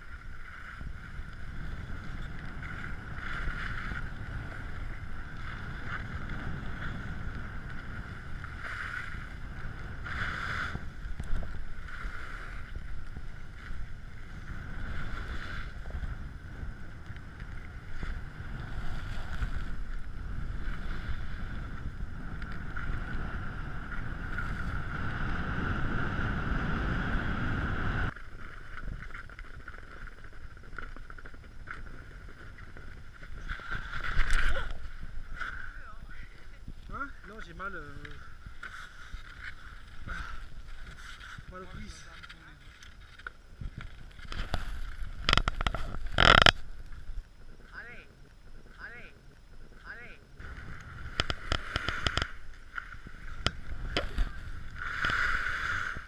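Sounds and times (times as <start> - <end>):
skis scraping on snow: 0.0 - 35.7, 37.8 - 47.1, 50.4 - 56.0
wind on microphone: 0.0 - 56.0.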